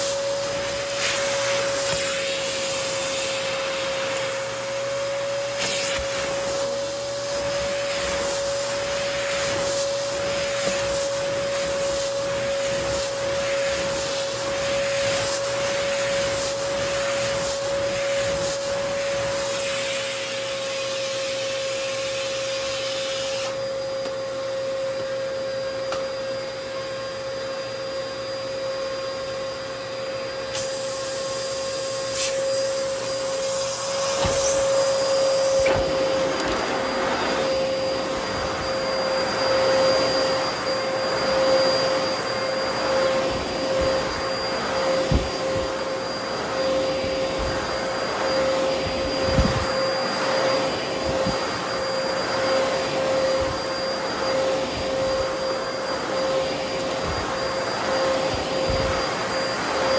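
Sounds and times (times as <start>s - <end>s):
vacuum cleaner running on carpet: 0.0s - 59.9s.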